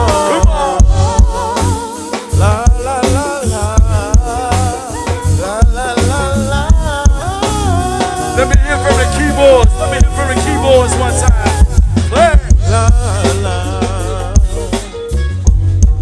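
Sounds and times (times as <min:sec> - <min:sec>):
live band playing reggae: 0:00.0 - 0:16.0.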